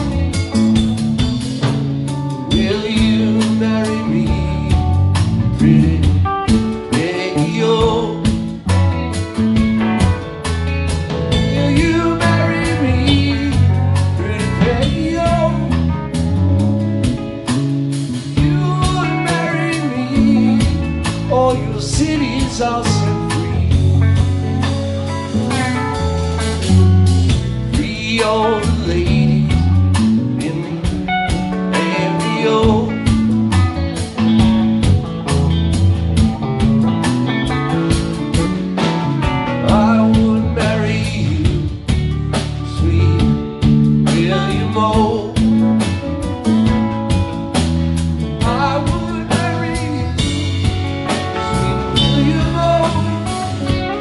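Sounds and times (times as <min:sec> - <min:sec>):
live blues-rock band: 0:00.0 - 0:54.0.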